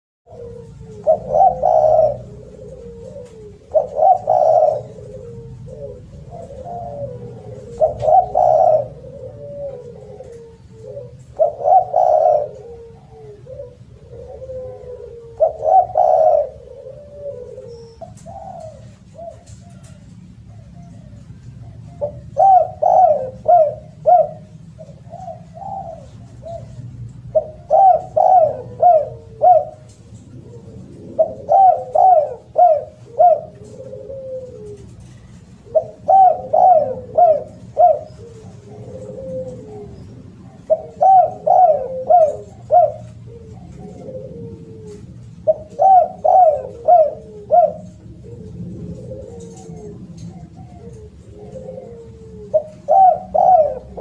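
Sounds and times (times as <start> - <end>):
dove cooing: 0.3 - 54.0
steady low hum: 0.3 - 54.0.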